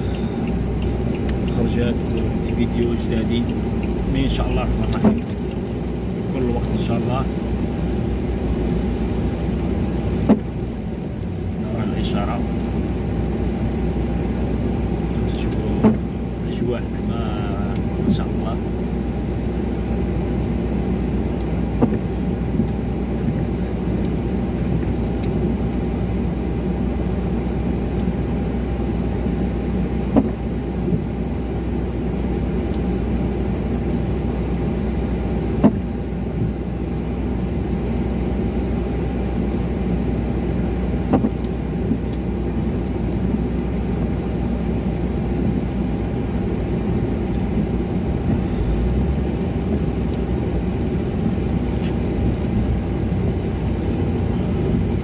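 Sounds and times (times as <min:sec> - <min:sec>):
engine idling hum: 0:00.0 - 0:55.0.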